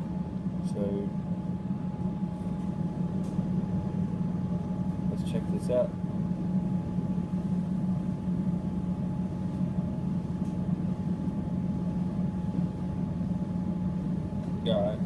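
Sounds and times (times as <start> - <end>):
train low hum: 0.0 - 15.0.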